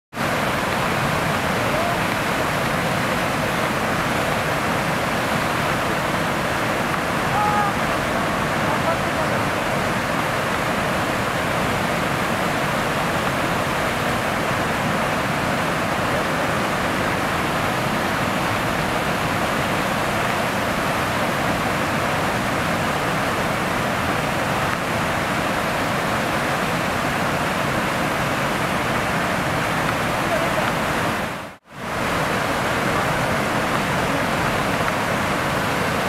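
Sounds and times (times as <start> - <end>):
waterfall rushing: 0.1 - 36.0.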